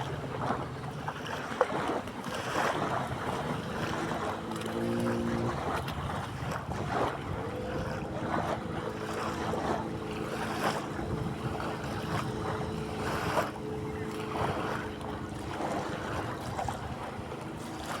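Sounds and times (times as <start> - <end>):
sea waves splashing: 0.0 - 18.0
wind on microphone: 0.0 - 18.0.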